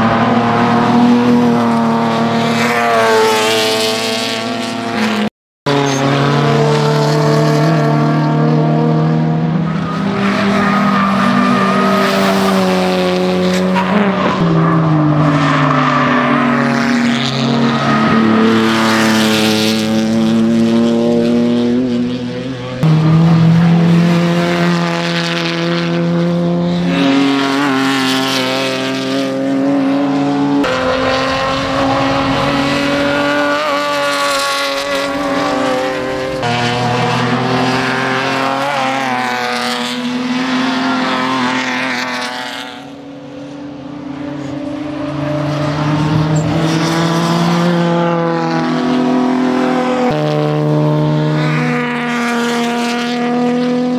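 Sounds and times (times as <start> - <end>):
race car engines at full throttle: 0.0 - 53.9.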